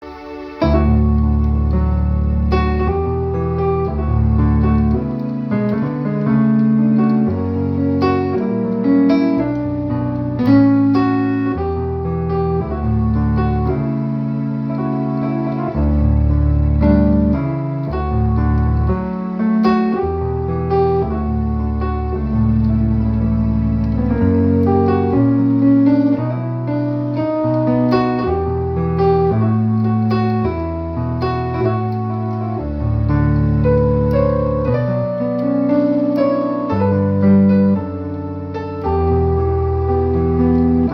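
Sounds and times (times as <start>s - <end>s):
keyboard music: 0.0s - 40.9s.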